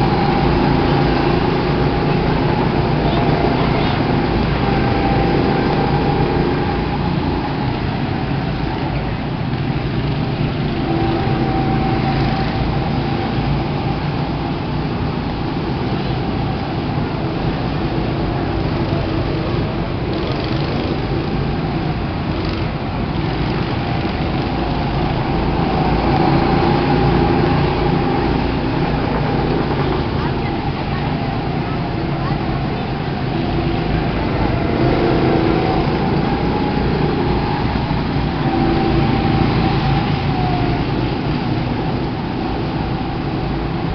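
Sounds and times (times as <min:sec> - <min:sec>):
go-kart engines droning: 0:00.0 - 0:43.9.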